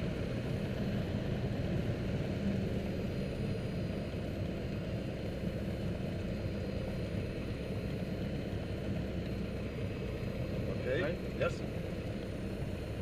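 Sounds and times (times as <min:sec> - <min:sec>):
small plane engine rumble: 0:00.0 - 0:13.0.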